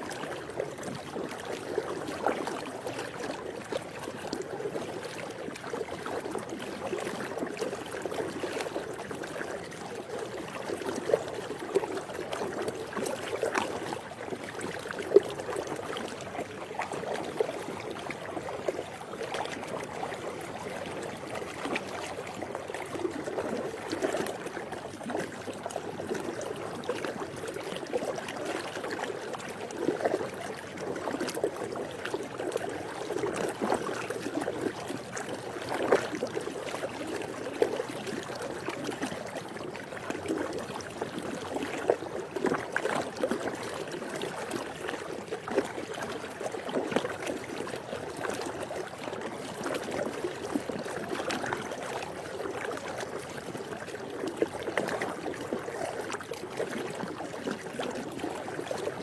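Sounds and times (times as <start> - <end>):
pool water moving: 0.0 - 59.0
small splashes and drips: 0.0 - 59.0.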